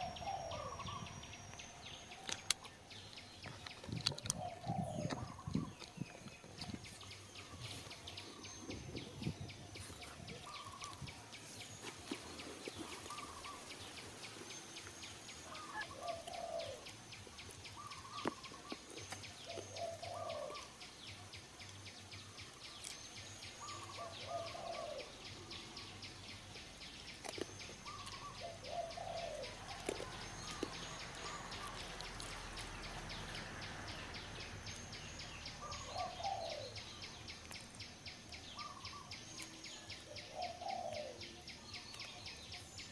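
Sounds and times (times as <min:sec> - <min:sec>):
bird calling: 0:00.0 - 0:11.1, 0:11.8 - 0:16.9, 0:17.7 - 0:20.8, 0:23.6 - 0:25.6, 0:27.2 - 0:37.7, 0:38.5 - 0:42.6.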